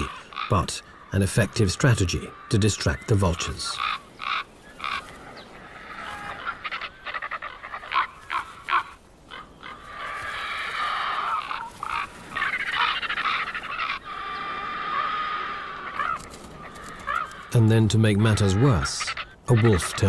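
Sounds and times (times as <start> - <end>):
birds giving harsh calls: 0.0 - 20.0.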